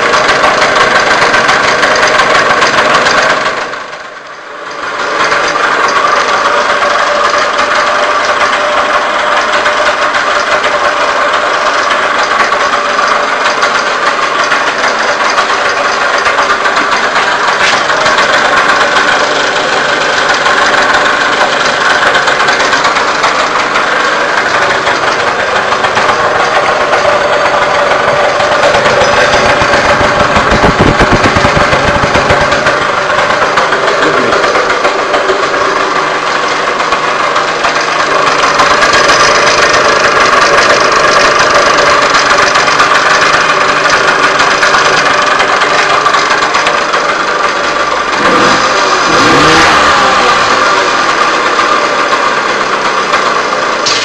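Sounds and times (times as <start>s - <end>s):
moped engine idling: 0.0s - 54.0s.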